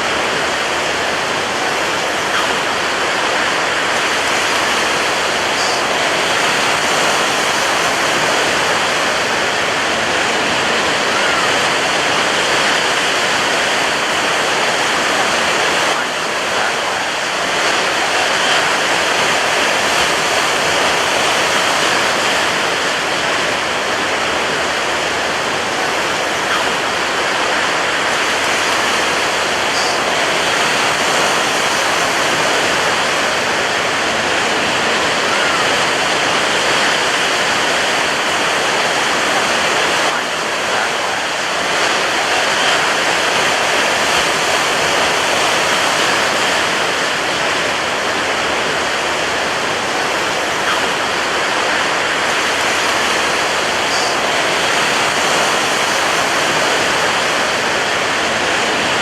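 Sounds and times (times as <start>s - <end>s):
ocean waves crashing on beach: 0.0s - 59.0s.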